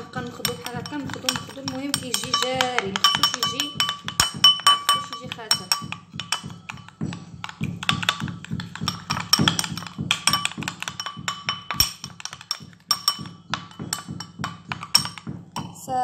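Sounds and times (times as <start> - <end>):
spoon clinking against bowl: 0.0 - 15.8.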